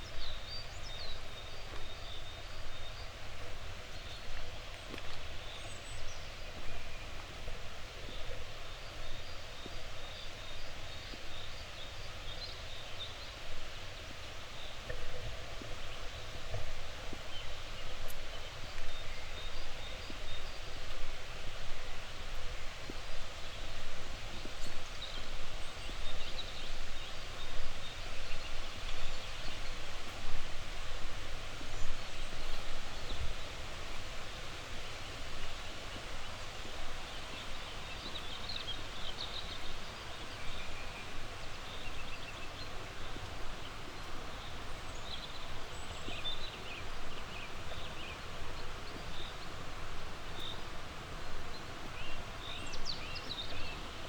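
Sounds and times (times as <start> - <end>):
small songbirds chirping: 0.0 - 54.0.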